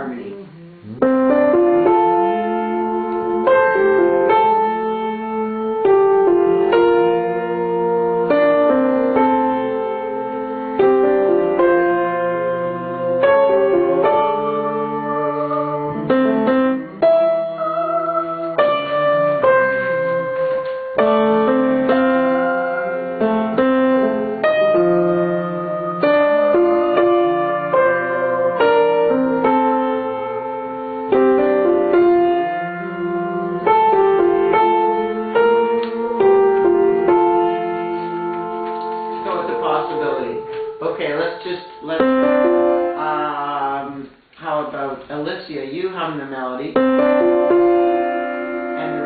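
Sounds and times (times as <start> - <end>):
piano playing chords: 0.0 - 44.4, 46.0 - 49.0.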